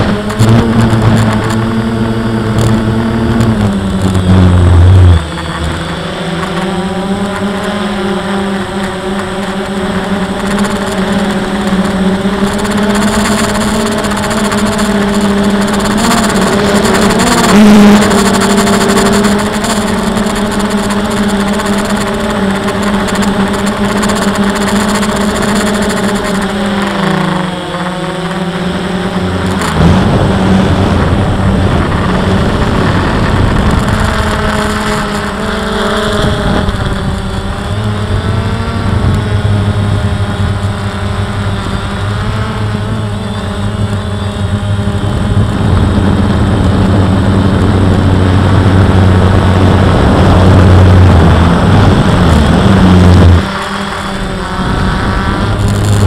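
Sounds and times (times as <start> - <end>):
deeper hum: 0.0 - 56.0
drone propellers humming: 0.0 - 56.0
wind noise on microphone: 0.0 - 56.0.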